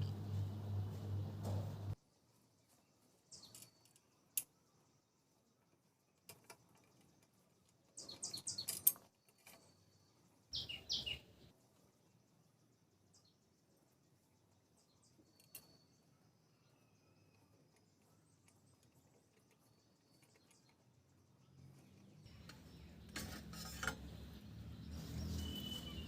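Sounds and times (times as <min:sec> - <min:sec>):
faint bird chirps: 0:02.0 - 0:23.2, 0:24.0 - 0:26.0.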